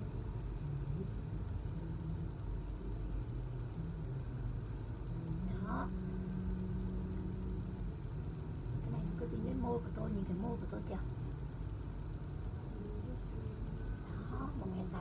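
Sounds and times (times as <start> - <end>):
faint pitched humming tones: 0.0 - 15.0
low background rumble: 0.0 - 15.0.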